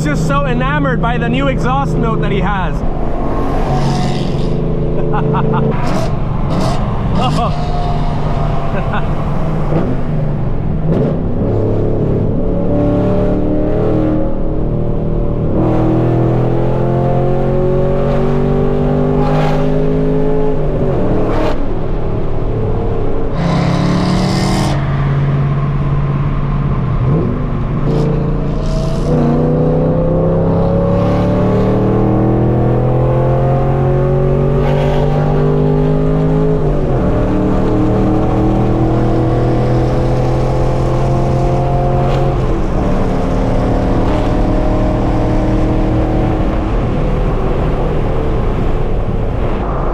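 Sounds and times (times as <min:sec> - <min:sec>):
car exhaust accelerating: 0:00.0 - 0:49.9.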